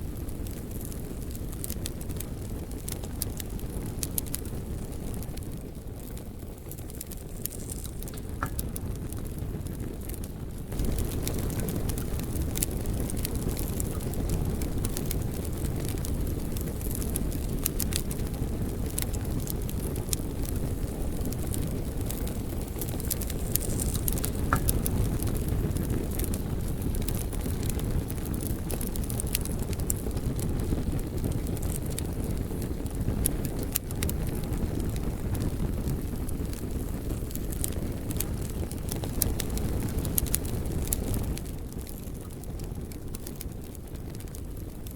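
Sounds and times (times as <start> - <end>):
fire crackles and pops: 0.0 - 44.9
flames rushing: 0.0 - 44.9.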